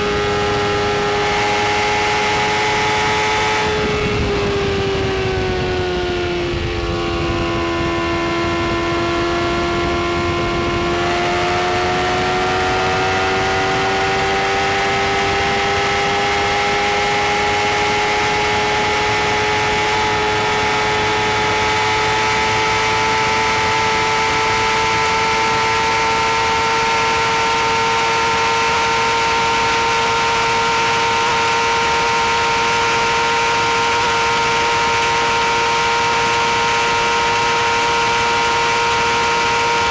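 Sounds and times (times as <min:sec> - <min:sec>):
motorcycle engine at high speed: 0:00.0 - 0:39.9
rushing wind noise: 0:00.0 - 0:39.9.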